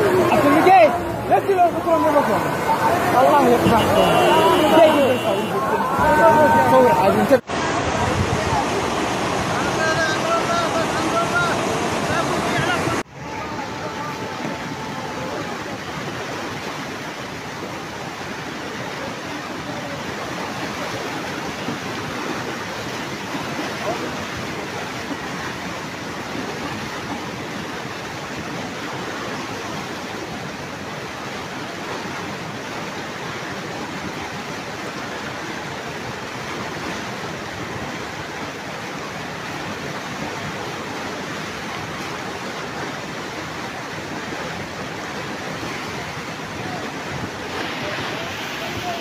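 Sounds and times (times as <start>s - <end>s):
floodwater rushing and churning: 0.0s - 49.0s.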